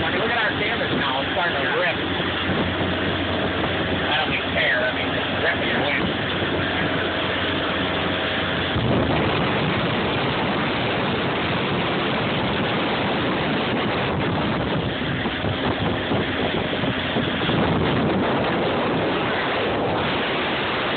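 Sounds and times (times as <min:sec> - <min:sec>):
motorboat engine drone: 0:00.0 - 0:20.9
water rushing past hull: 0:00.0 - 0:20.9
wind buffeting microphone: 0:00.0 - 0:20.9.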